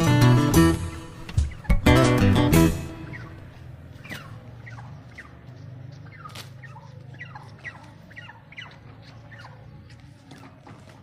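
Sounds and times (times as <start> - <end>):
turkeys calling: 0.0 - 11.0.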